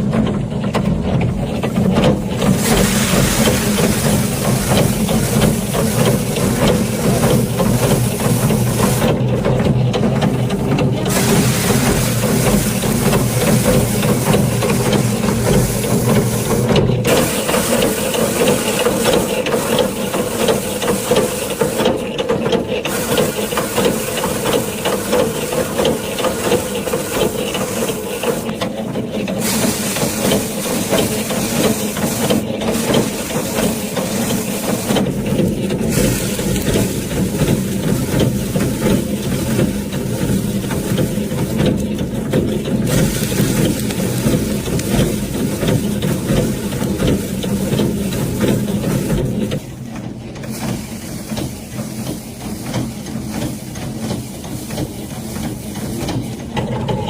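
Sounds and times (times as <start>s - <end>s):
harvester engine running: 0.0s - 57.0s
loud hiss: 2.2s - 9.2s, 11.1s - 22.2s, 22.8s - 28.6s, 29.3s - 41.8s, 42.7s - 49.2s, 50.5s - 56.2s.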